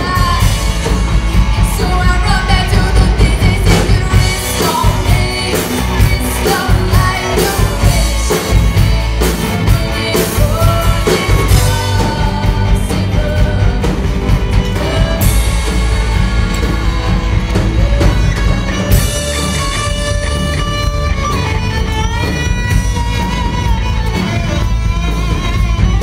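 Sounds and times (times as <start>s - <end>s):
person singing: 0.0s - 21.4s
live rock band playing: 0.0s - 26.0s.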